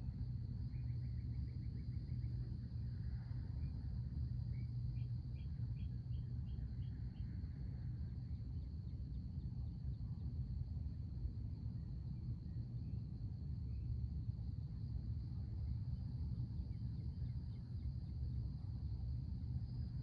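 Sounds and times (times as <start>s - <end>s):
constant low rumble: 0.0s - 20.0s
high insect drone: 0.0s - 20.0s.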